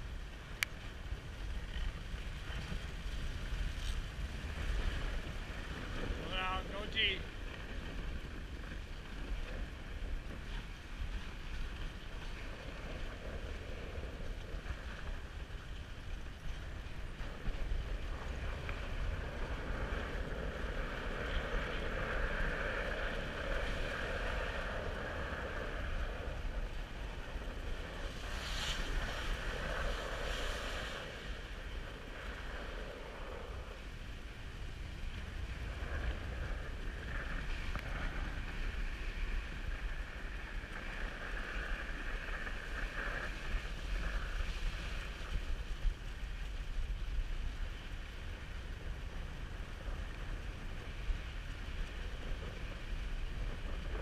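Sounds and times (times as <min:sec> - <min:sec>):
sled runners sliding over snow: 0:00.0 - 0:54.0
wind rumbling on microphone: 0:00.0 - 0:54.0.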